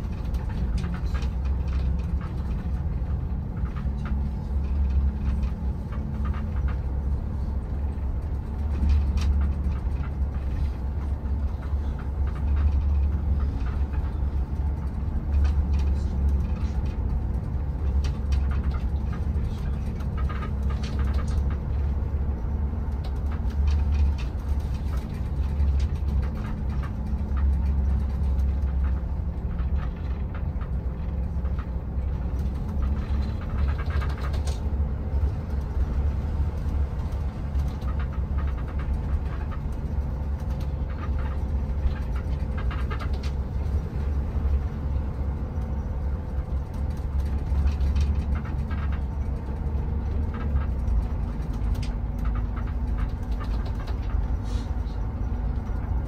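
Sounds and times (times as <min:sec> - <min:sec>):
bus engine and road rumble: 0:00.0 - 0:56.0
light clicks and rattles: 0:00.0 - 0:56.0.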